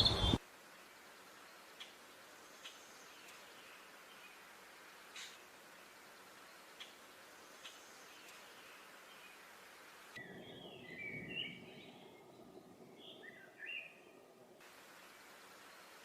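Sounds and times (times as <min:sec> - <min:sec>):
soft steady hiss: 0:00.0 - 0:16.0
songbird chirps: 0:00.0 - 0:16.0.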